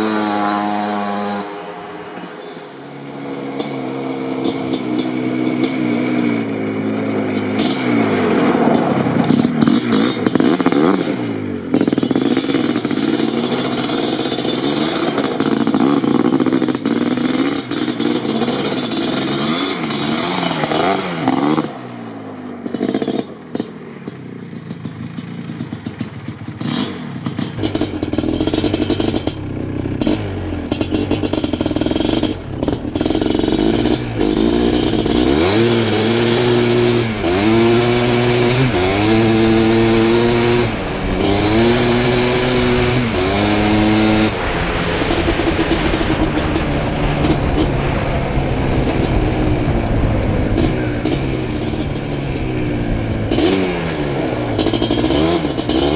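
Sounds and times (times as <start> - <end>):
two-stroke engine revving: 0.0 - 55.9.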